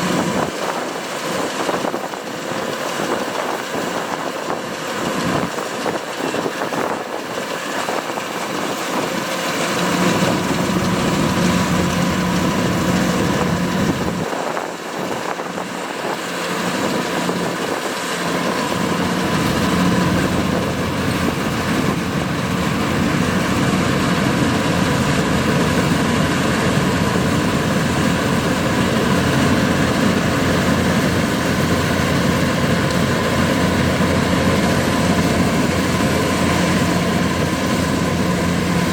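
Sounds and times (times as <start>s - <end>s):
combine harvester engine rumbling: 0.0s - 38.9s.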